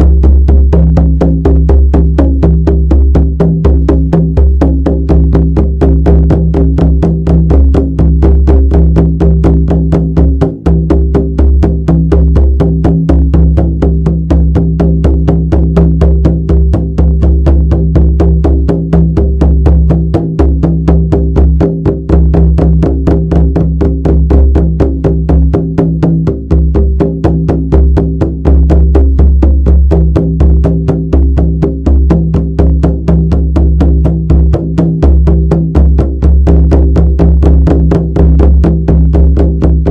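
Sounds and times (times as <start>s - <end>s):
frame drum beating: 0.0s - 39.9s.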